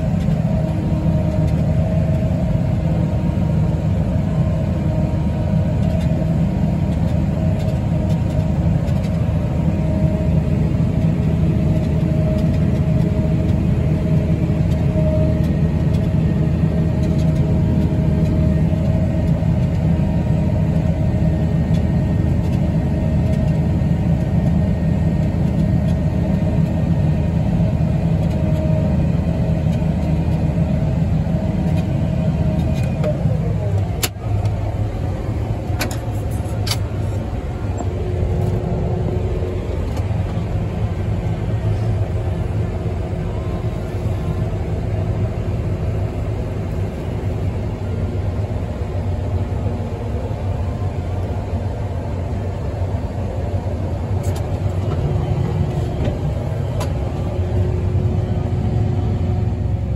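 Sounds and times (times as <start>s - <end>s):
low rumble of machinery: 0.0s - 59.9s.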